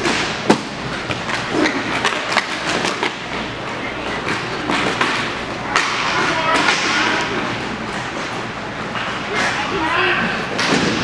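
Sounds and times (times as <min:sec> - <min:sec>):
hockey sticks and puck clacking: 0:00.0 - 0:11.0.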